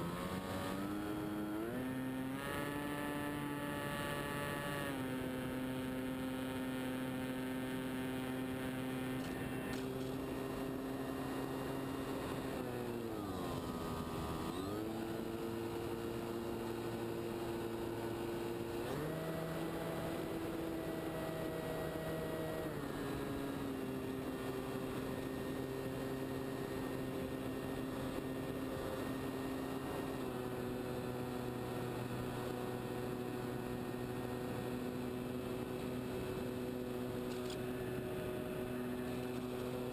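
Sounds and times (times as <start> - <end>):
model plane motor and propeller humming: 0.0 - 39.9.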